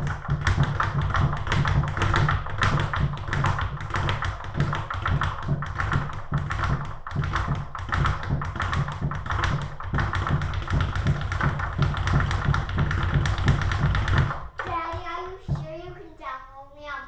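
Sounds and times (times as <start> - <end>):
speed bag being punched: 0.0 - 14.7.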